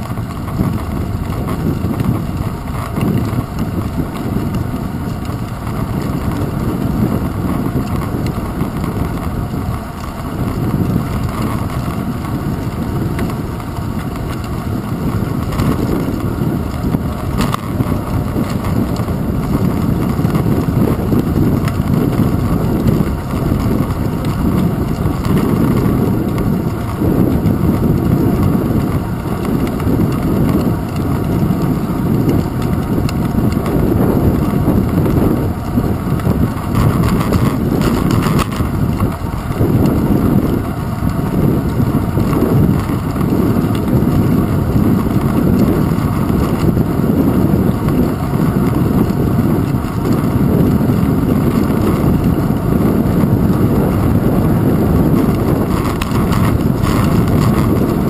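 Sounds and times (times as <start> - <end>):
bicycle tyres rumbling on pavement: 0.0 - 58.0
wind buffeting camera: 0.0 - 58.0.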